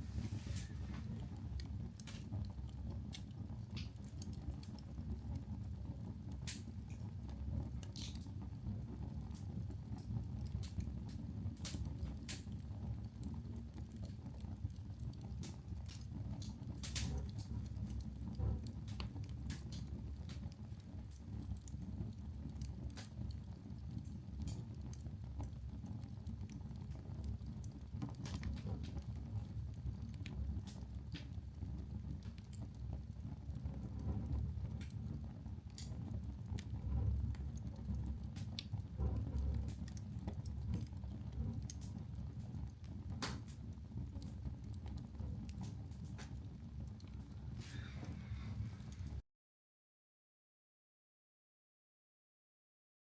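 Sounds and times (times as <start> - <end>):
fire crackling and popping: 0.0 - 49.2
loud fire crack: 0.0 - 49.2
low fire rumble: 0.0 - 49.2.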